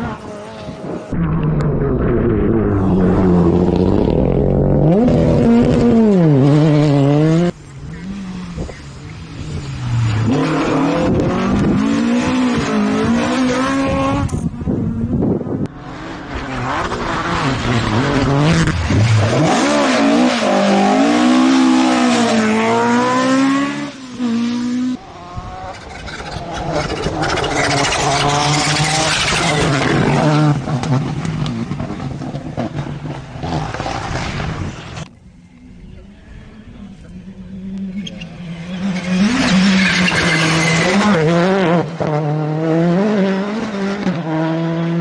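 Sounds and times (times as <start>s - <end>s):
rally car engines revving: 0.0s - 35.1s, 35.8s - 45.0s.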